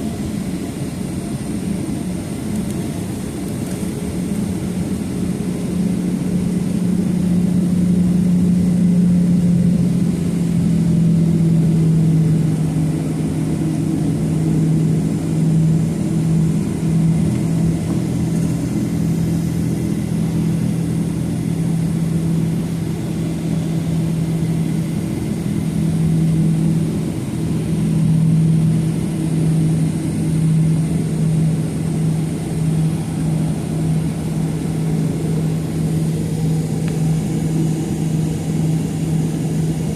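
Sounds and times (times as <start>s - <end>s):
jet engines at high thrust: 0.0s - 39.9s.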